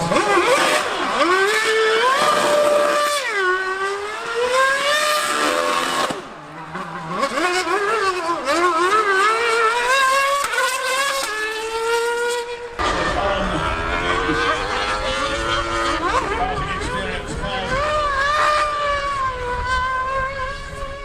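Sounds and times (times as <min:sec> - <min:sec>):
high-revving race engine: 0:00.0 - 0:21.0.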